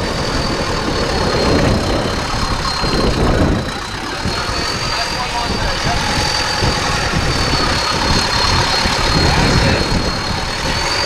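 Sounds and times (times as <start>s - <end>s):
engine idling: 0.0s - 11.0s
thin high whine: 0.0s - 11.0s.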